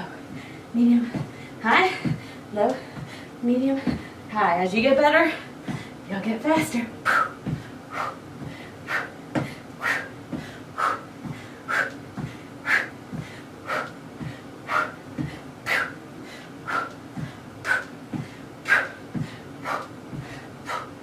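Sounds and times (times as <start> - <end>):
soft low thuds: 0.0 - 15.9, 16.7 - 20.5
woman breathing hard: 0.3 - 4.3, 5.4 - 6.0, 7.0 - 21.0.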